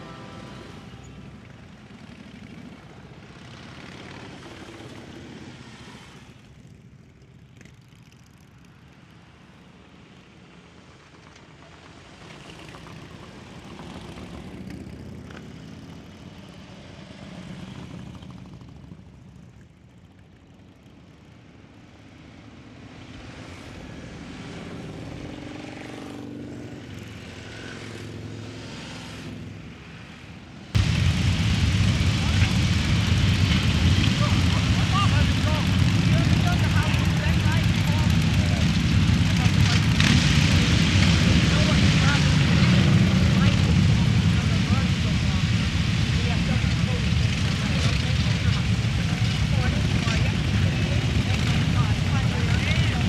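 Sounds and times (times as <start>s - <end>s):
motorcycle engines rumbling: 0.0s - 53.0s.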